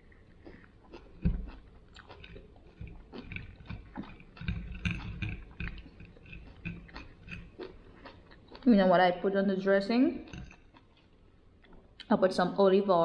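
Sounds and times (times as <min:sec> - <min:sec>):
chewing salad: 0:00.0 - 0:12.2.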